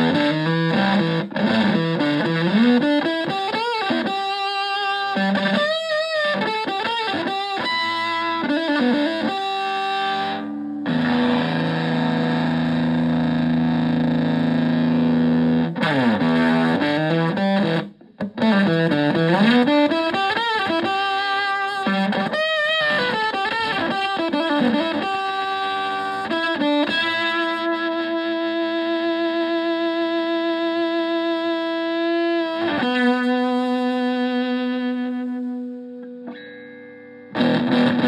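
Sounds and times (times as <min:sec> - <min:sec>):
fuzzed electric guitar: 0:00.0 - 0:38.0.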